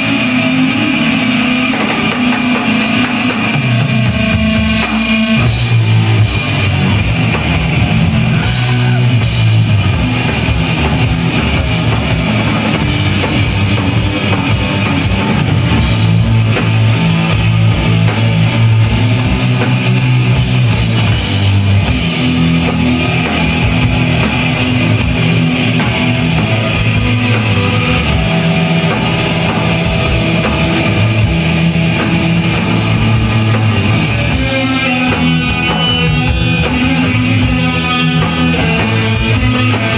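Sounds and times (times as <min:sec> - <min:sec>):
heavy metal band playing: 0:00.0 - 0:39.9.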